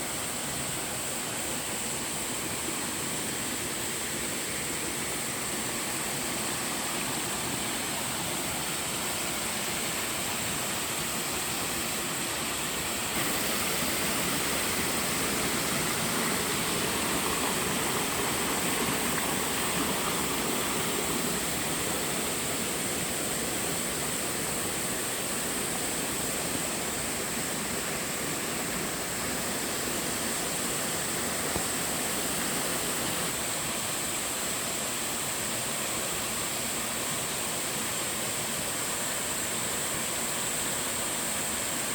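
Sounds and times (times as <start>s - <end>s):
waterfall rushing and splashing: 0.0s - 41.9s.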